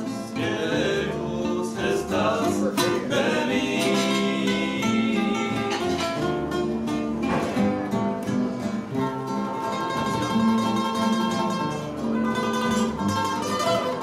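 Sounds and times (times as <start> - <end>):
acoustic guitars plucked and strummed: 0.0 - 14.0.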